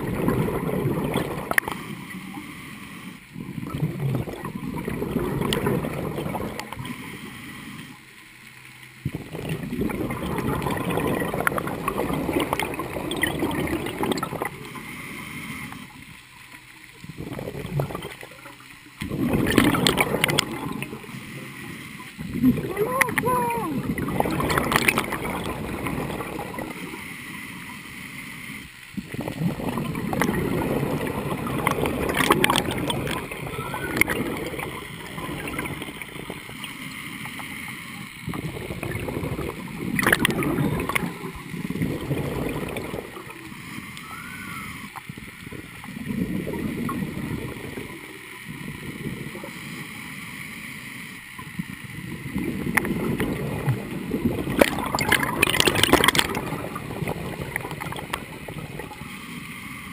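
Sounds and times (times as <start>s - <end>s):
underwater bubbles gurgling: 0.0s - 59.9s.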